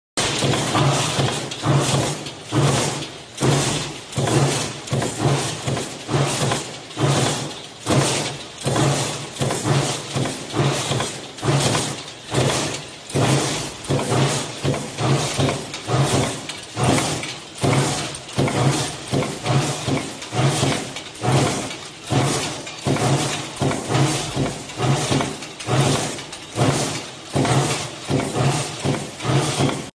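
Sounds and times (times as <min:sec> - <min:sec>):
power press striking sheet steel: 0:00.2 - 0:29.9.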